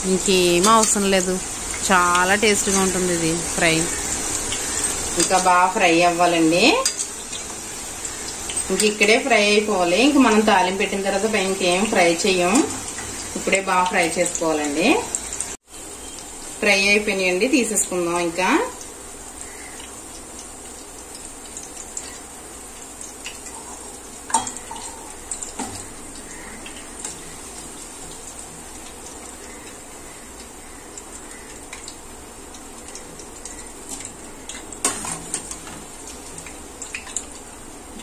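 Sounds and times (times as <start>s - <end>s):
vegetables sizzling in hot oil: 0.0s - 38.0s.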